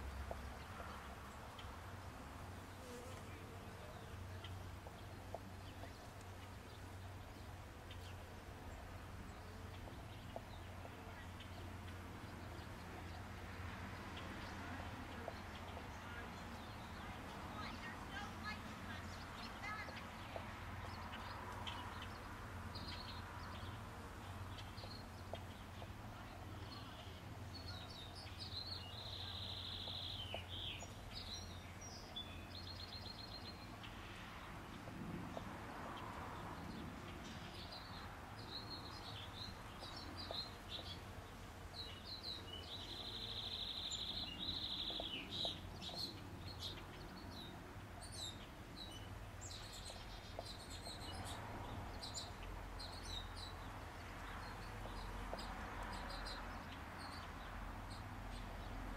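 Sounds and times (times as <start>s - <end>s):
songbirds singing and chirping: 0.0s - 58.9s.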